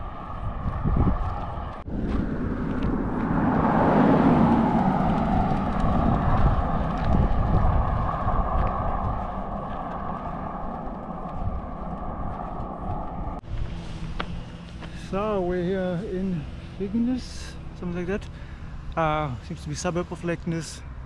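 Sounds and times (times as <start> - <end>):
car passing on asphalt: 0.0 - 21.0.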